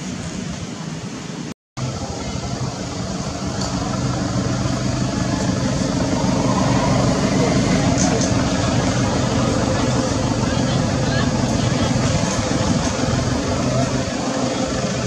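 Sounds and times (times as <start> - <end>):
engine drone: 1.8 - 15.0.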